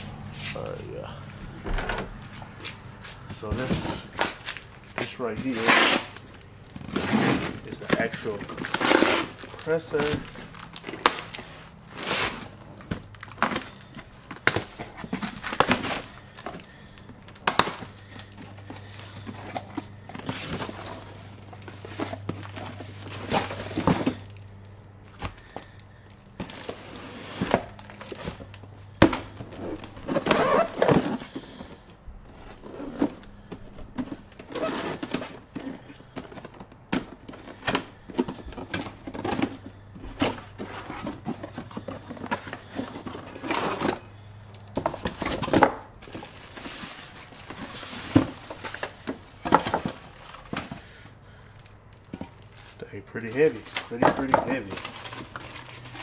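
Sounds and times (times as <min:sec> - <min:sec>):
packaging crinkling and tearing: 0:03.5 - 0:31.6, 0:34.1 - 0:56.0.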